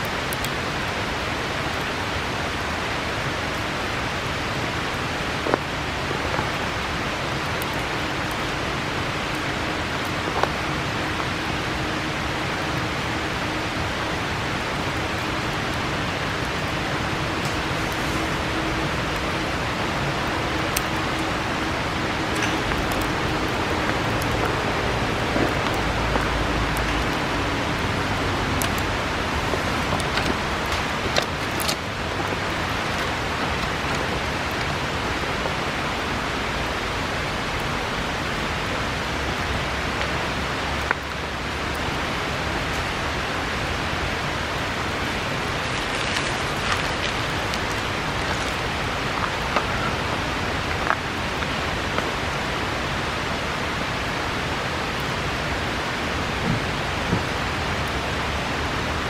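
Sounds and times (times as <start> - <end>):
bonfire crackling and popping: 0.0 - 59.0
river rushing: 0.0 - 59.0.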